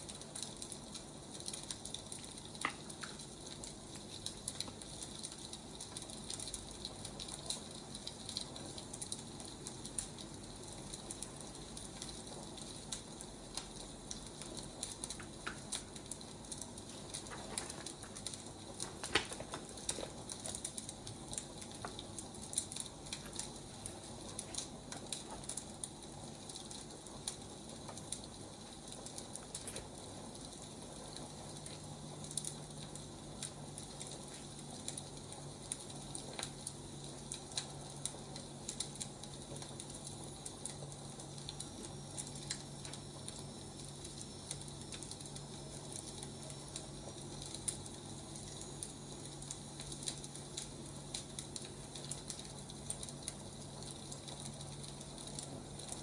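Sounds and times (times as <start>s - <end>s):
firewood crackling and popping: 0.0s - 56.0s
steady hiss: 0.0s - 56.0s.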